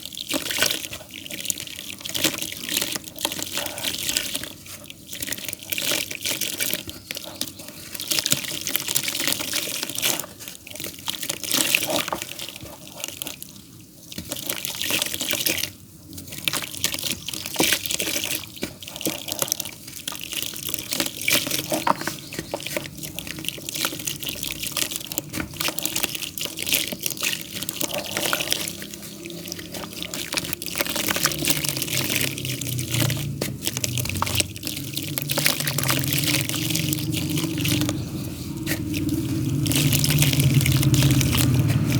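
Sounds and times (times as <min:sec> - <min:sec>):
damp clay crumbling: 0:00.0 - 0:41.9.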